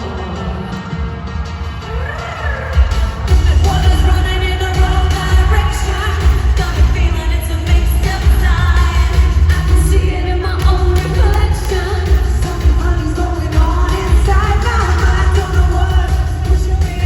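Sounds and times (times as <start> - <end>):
heavy bass beat: 0.0 - 17.0
women singing: 0.0 - 17.0.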